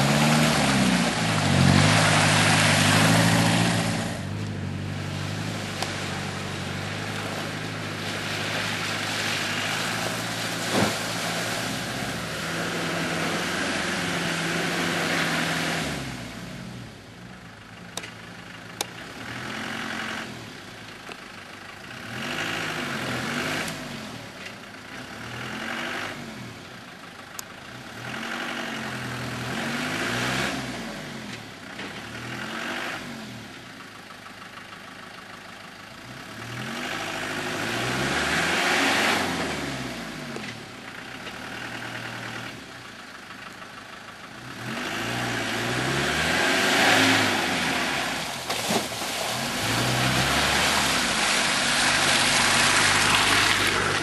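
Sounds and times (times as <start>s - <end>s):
vehicle engine revving in mud: 0.0s - 17.4s, 18.0s - 20.8s, 21.8s - 26.8s, 27.7s - 33.7s, 35.9s - 54.0s.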